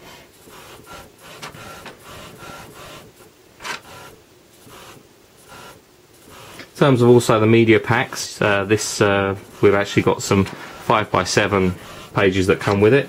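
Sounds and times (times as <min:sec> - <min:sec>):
printer whirring: 0:00.0 - 0:13.0.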